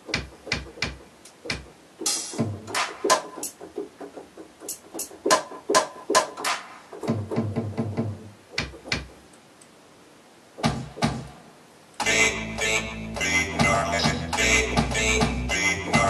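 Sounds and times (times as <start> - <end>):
drum machine hits: 0.0 - 9.2, 10.6 - 12.2, 13.2 - 16.0.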